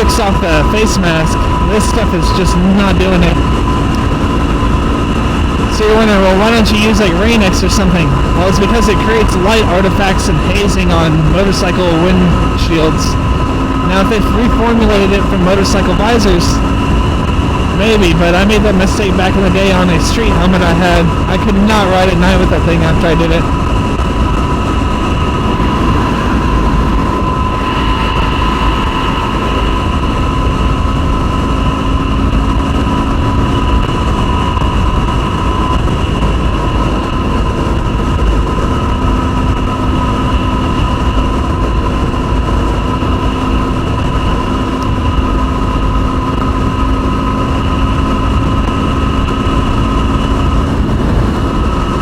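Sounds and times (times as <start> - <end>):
motorcycle engine cruising: 0.0 - 52.0
wind rushing over microphone: 0.0 - 52.0.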